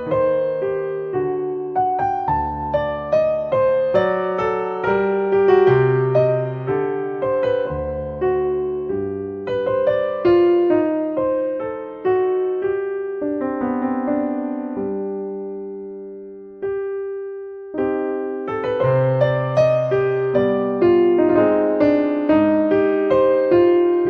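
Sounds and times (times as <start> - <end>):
slow piano melody: 0.0 - 24.0.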